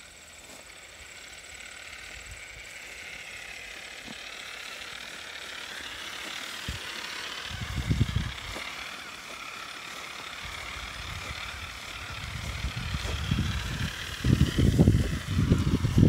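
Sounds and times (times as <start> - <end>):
grass brushing against truck: 0.0 - 16.0
toy truck motor whining: 0.0 - 16.0.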